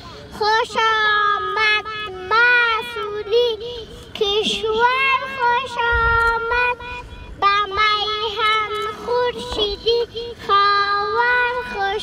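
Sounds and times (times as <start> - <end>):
girl singing into microphone: 0.0 - 12.0.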